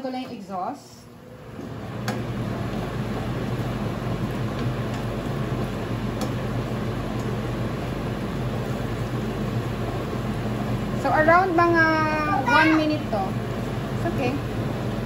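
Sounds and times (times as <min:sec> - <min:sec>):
range hood fan running: 0:00.0 - 0:15.0.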